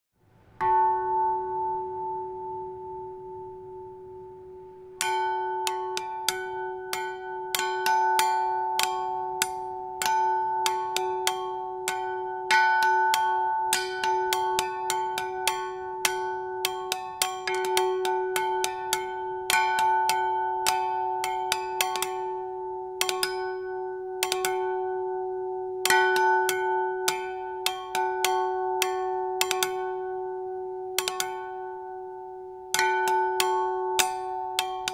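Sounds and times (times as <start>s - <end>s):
small bell struck with sticks: 5.0s - 34.9s.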